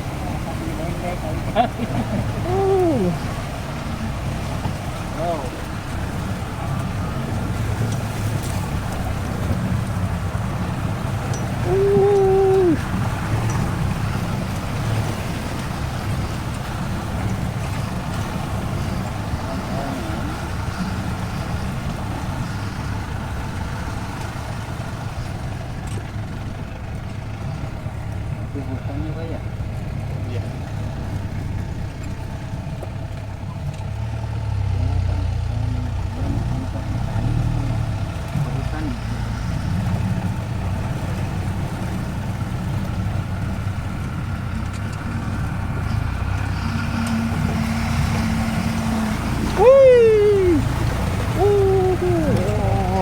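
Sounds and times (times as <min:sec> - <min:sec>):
off-road vehicle engine rumbling: 0:00.0 - 0:53.0.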